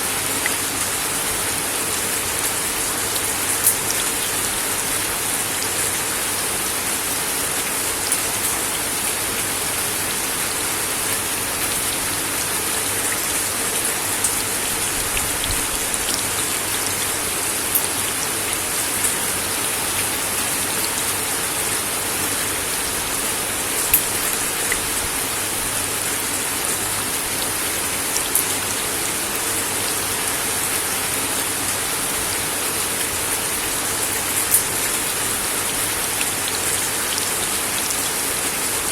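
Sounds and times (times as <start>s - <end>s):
rain on a wooden deck: 0.0s - 38.9s.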